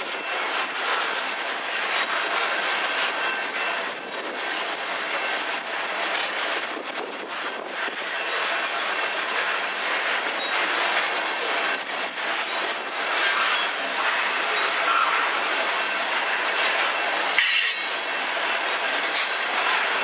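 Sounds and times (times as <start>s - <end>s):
train wheels clattering: 0.0s - 20.0s.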